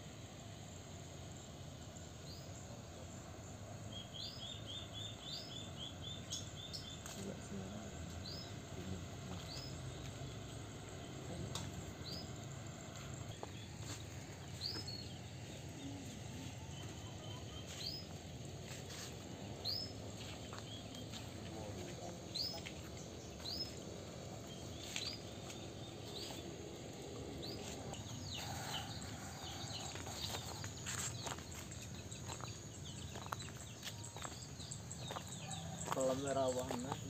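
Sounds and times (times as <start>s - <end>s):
bird chirping: 1.3s - 37.0s.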